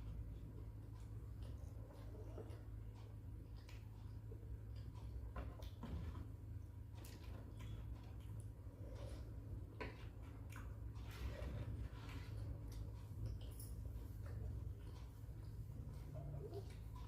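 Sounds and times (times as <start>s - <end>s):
chewing with clicks and crunches: 0.0s - 17.0s
steady low hum: 0.0s - 17.0s.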